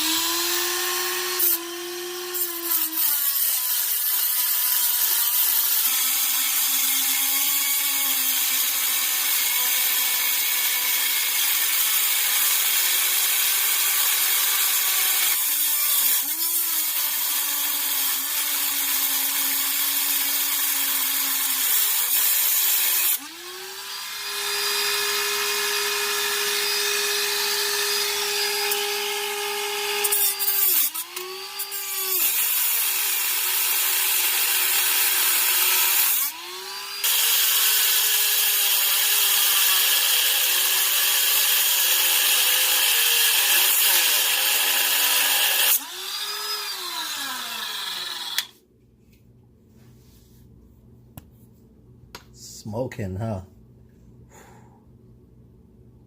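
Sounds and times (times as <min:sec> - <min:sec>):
rotary tool grinding metal: 0:00.0 - 0:48.6.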